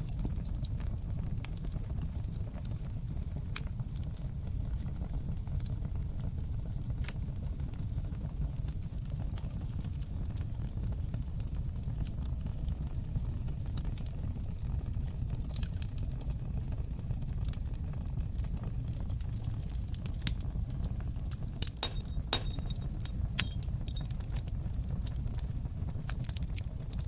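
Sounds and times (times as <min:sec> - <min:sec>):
fire flames rumbling: 0:00.0 - 0:27.0
wood crackling and popping: 0:00.0 - 0:27.0.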